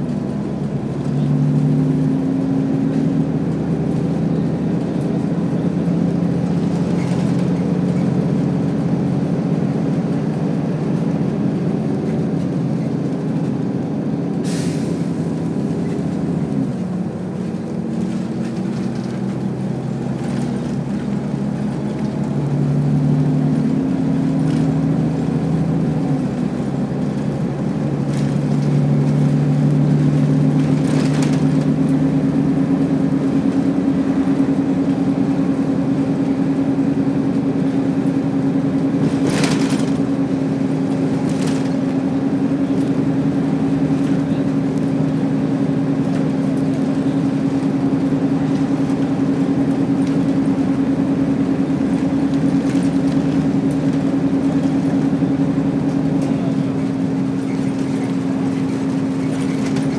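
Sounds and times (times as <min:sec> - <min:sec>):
vehicle engine drone: 0:00.0 - 0:59.9.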